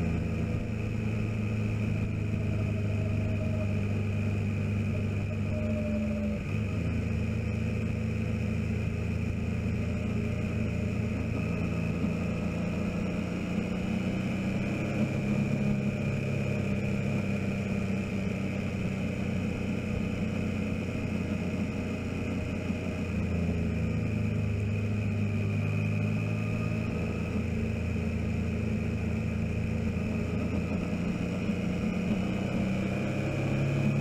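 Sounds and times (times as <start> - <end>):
motorcycle engine running: 0.0 - 34.0
road and wind noise: 0.0 - 34.0.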